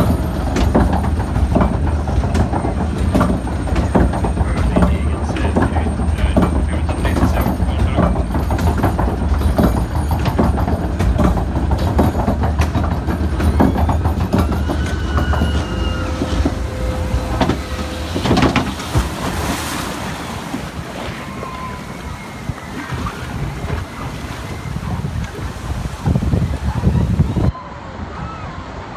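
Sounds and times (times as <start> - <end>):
lift conveyor clattering rumble: 0.0 - 27.6
water rushing around boat: 0.0 - 28.9.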